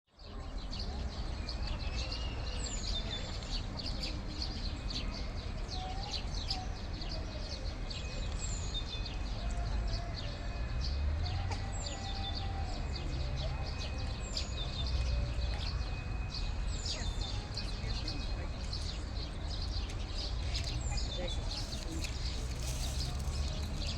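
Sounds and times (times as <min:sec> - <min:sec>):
low city rumble: 0:00.2 - 0:23.9
small birds chirping: 0:00.2 - 0:23.9.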